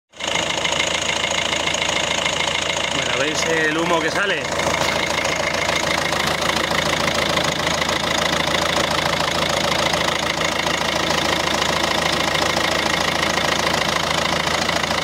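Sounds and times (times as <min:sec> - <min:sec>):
diesel engine idling: 0:00.1 - 0:15.0.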